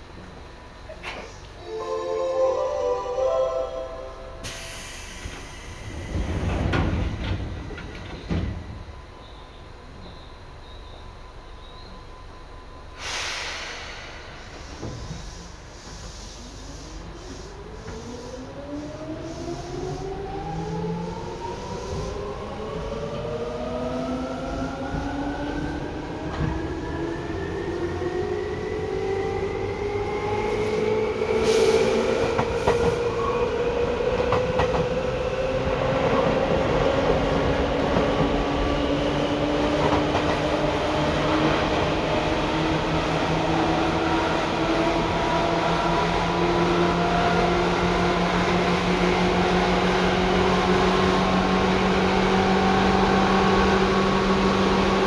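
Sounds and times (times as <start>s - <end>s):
rail noise: 0.0s - 55.0s.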